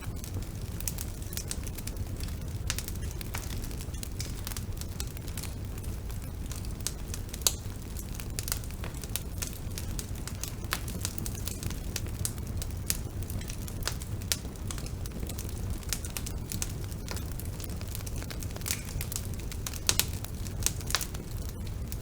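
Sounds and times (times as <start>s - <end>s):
bonfire flames rumbling: 0.0s - 22.0s
burning wood crackling and popping: 0.0s - 22.0s.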